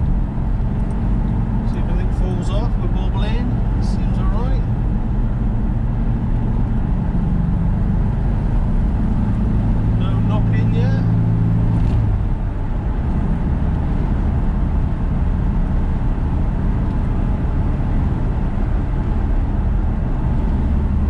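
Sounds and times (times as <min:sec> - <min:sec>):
road noise: 0:00.0 - 0:21.0
vehicle engine from inside cab: 0:00.0 - 0:21.0.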